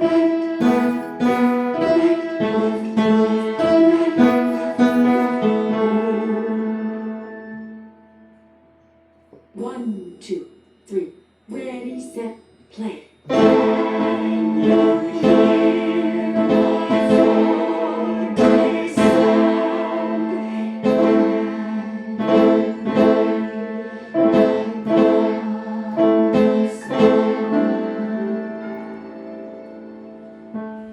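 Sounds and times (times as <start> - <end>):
piano chords and notes: 0.0 - 9.6, 13.2 - 30.9.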